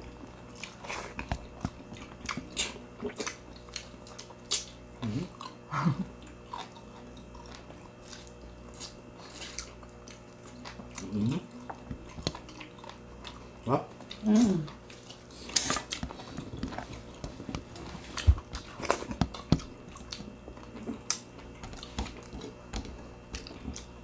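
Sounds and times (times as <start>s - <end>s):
chewing: 0.0s - 24.0s.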